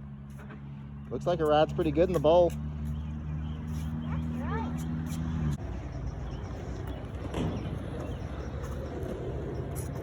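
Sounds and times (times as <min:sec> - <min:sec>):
skateboard wheels rolling on concrete: 0:00.0 - 0:10.0.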